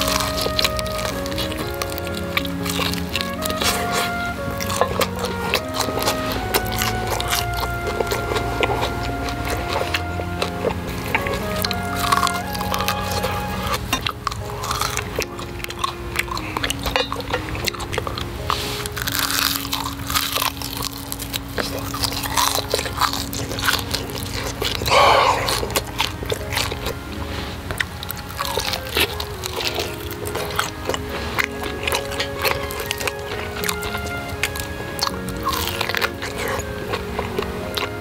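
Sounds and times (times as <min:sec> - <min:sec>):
background music: 0:00.0 - 0:38.0
crunchy chewing: 0:00.0 - 0:38.0.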